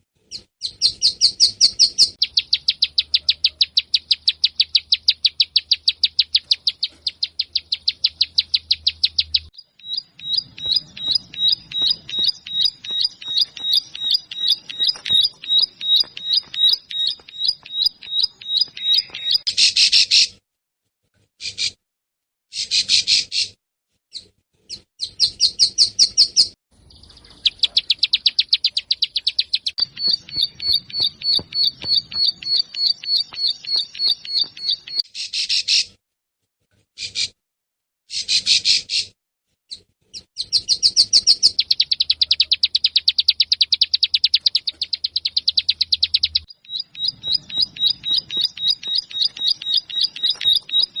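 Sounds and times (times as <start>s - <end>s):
bird singing quick high chirps: 0.3s - 20.4s, 24.1s - 35.9s, 40.2s - 51.0s.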